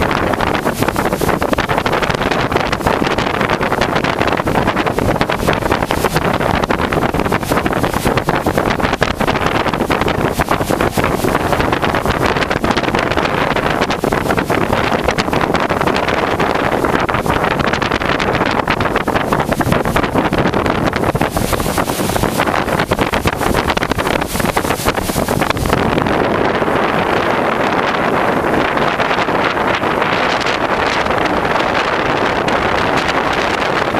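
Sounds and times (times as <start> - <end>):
heavy rain pouring: 0.0 - 33.9
wind buffeting microphone: 0.0 - 33.9.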